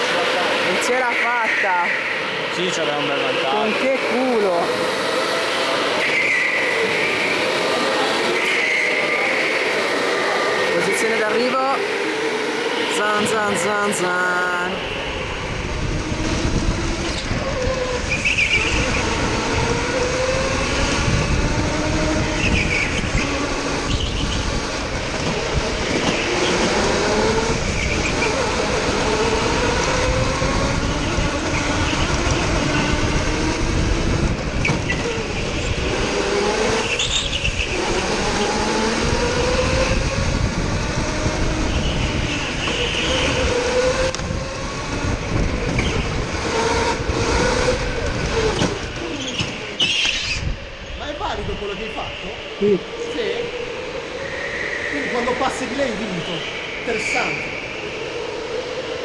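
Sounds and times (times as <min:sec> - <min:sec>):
go-kart engines revving: 0:00.0 - 0:59.0.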